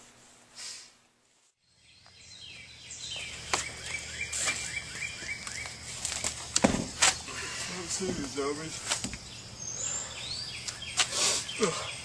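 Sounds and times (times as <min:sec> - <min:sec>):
songbird chirping: 0:01.6 - 0:12.0.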